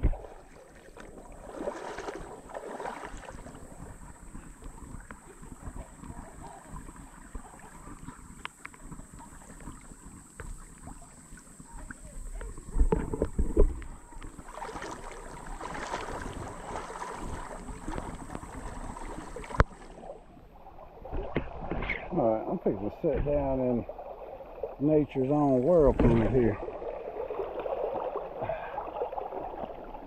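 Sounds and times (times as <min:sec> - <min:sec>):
river water rippling over rocks: 0:00.0 - 0:30.0.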